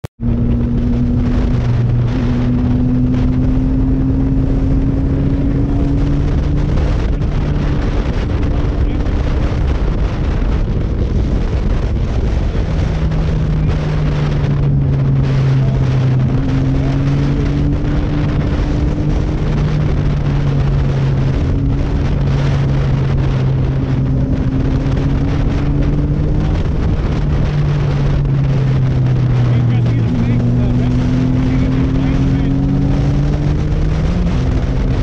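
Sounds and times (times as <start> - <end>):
motorcycle engine cruising: 0.1 - 35.0
wind rushing over microphone: 0.2 - 35.0.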